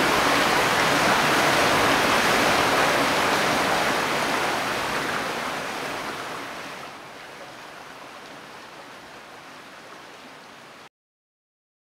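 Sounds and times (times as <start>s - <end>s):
mountain stream rushing: 0.0s - 10.9s.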